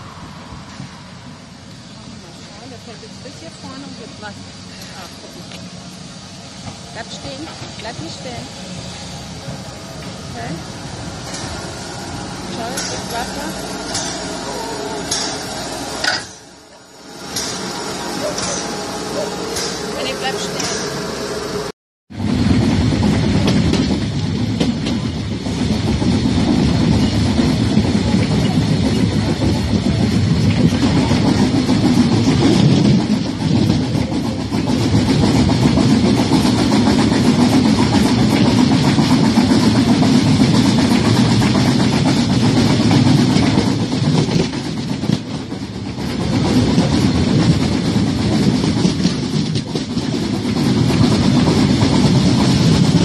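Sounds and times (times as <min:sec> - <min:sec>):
rush of wind: 0:00.0 - 0:53.0
train running: 0:00.0 - 0:53.0.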